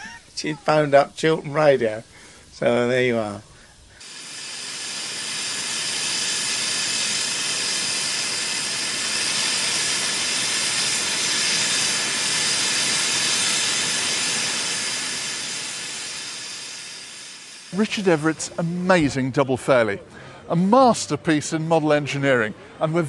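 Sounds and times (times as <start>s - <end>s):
steam hissing: 0.0s - 19.8s.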